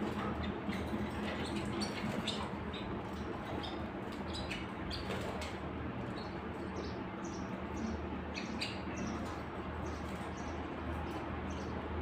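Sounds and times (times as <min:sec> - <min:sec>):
canaries chirping: 0:00.0 - 0:12.0
low background hum: 0:00.0 - 0:12.0.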